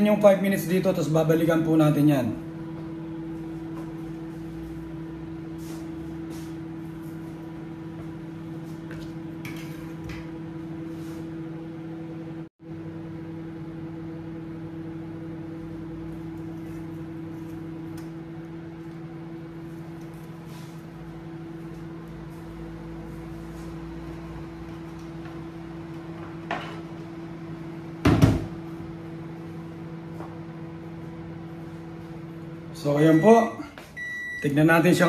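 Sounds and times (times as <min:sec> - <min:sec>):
microwave oven humming: 0:00.0 - 0:35.0.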